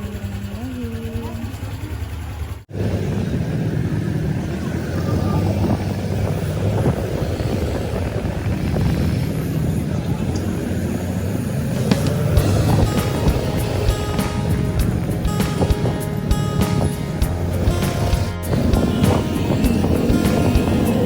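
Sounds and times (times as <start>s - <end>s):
road noise: 0.0s - 21.0s
vehicle engine: 0.0s - 21.0s.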